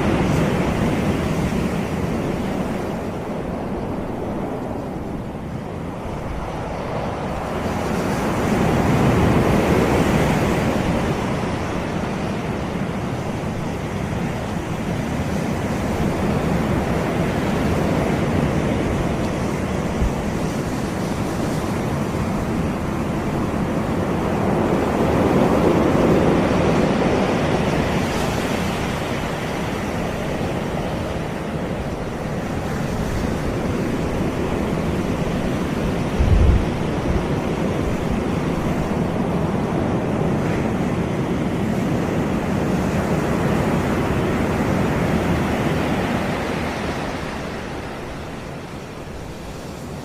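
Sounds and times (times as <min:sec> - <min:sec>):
sea waves breaking on beach: 0:00.0 - 0:50.0.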